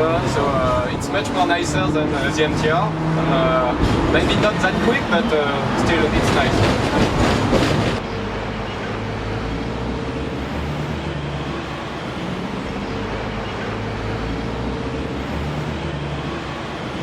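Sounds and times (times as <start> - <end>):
street traffic drone: 0.0 - 17.0.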